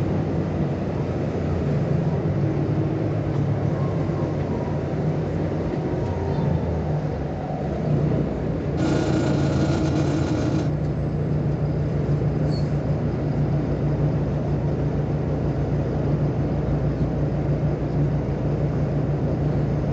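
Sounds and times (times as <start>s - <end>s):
bus diesel engine humming: 0.0s - 19.9s.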